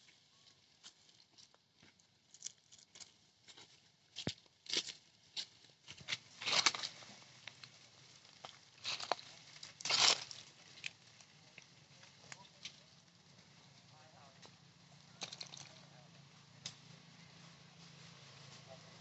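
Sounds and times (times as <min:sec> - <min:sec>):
small clicks and crackles: 0:00.0 - 0:19.0.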